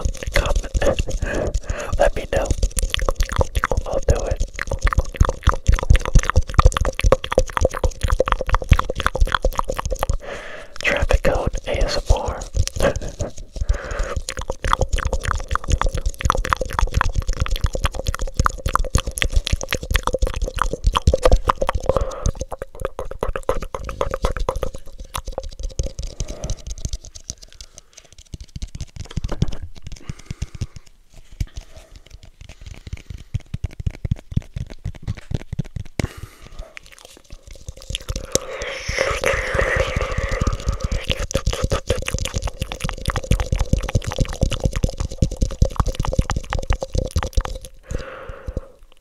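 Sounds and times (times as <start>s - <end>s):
mouth clicks and pops: 0.0s - 49.0s.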